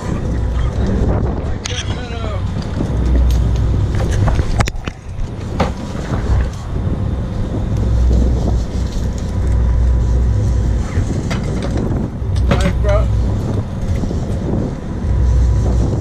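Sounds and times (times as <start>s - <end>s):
boat engine rumble: 0.0s - 16.0s
wind buffeting microphone: 0.0s - 16.0s.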